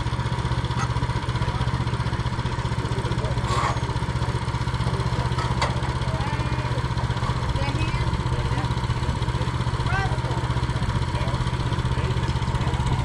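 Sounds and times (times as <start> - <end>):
gas engine idling: 0.0 - 13.0.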